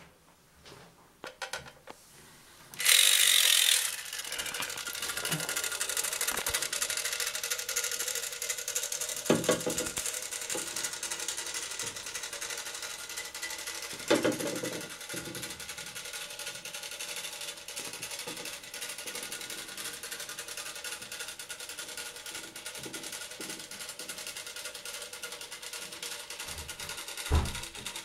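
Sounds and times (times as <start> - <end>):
clockwork toy motor whirring: 2.7 - 28.0.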